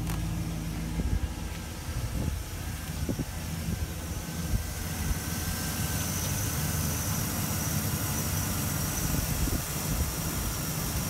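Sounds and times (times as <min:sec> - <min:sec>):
van engine idling: 0:00.0 - 0:11.0.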